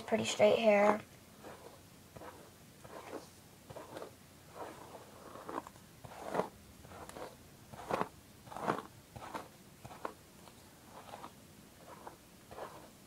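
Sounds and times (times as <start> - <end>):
hairbrush brushing hair: 0.0 - 10.2, 10.9 - 13.0.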